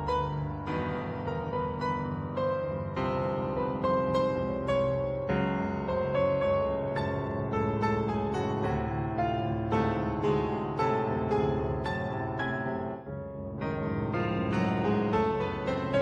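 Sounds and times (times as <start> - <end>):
lively piano music: 0.0 - 16.0.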